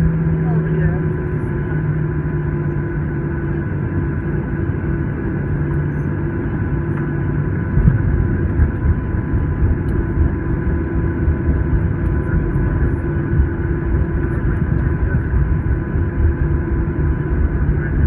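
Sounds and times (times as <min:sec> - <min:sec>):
faint steady whines: 0:00.0 - 0:18.0
low rumble of engines and airflow: 0:00.0 - 0:18.0.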